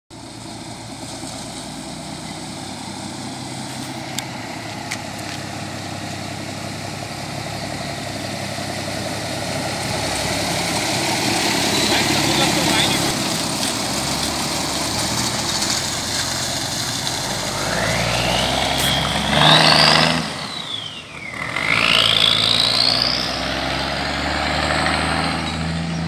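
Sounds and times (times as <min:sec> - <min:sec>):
diesel truck engine running: 0:00.1 - 0:26.0.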